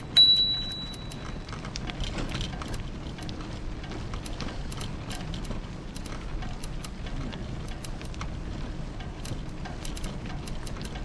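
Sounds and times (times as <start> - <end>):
bicycle ticks and rattles: 0.0 - 11.0.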